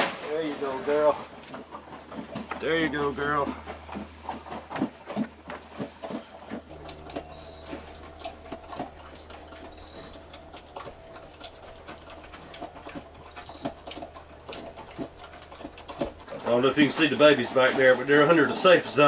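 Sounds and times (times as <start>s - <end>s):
pig crunching dry feed: 0.0s - 19.0s.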